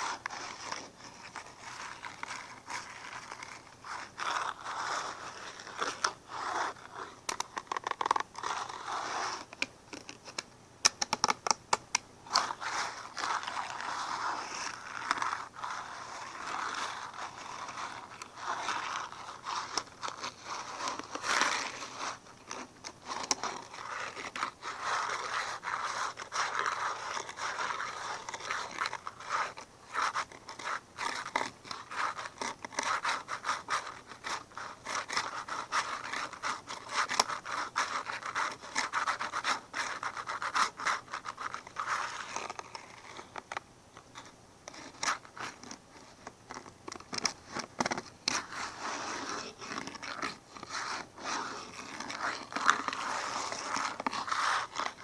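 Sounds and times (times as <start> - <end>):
close-up scratching and scraping: 0.0 - 10.4, 12.2 - 55.0.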